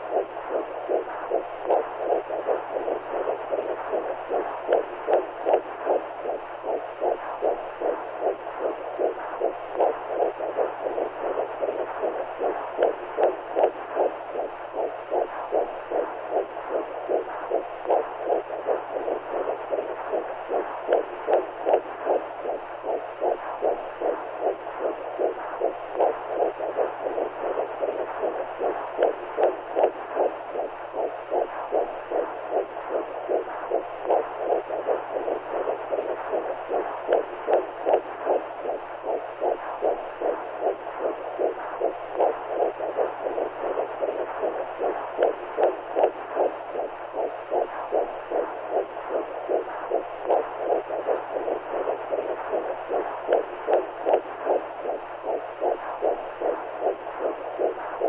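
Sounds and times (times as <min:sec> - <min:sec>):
low hum: 0:00.0 - 0:58.0
whooshing heartbeat pulse: 0:00.0 - 0:58.0.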